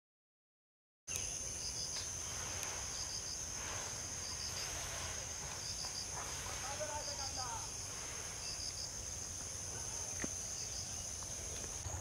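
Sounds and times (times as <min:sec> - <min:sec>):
insects shrilling drone: 0:01.1 - 0:12.0.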